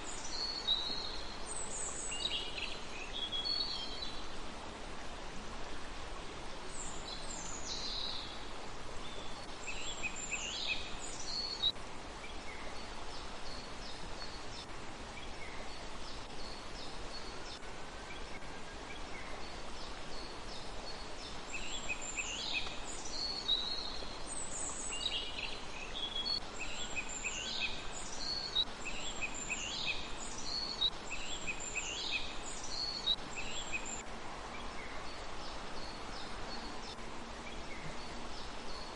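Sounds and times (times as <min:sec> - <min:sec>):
steady hiss: 0:00.0 - 0:38.9
small birds chirping: 0:06.7 - 0:38.9.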